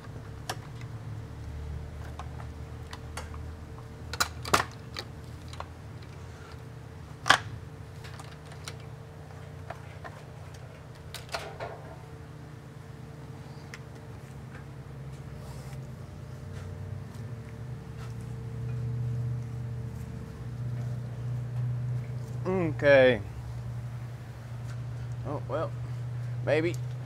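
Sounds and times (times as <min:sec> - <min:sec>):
low shop hum: 0:00.0 - 0:27.0.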